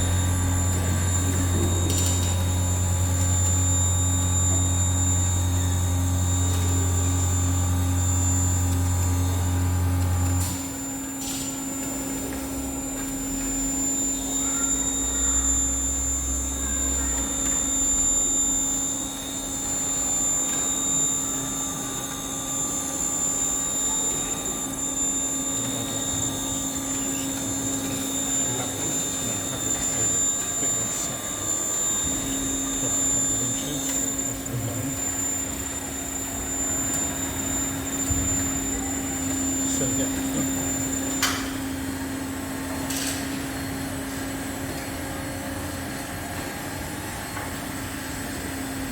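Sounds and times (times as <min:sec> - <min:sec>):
machinery hum and whine: 0:00.0 - 0:48.9.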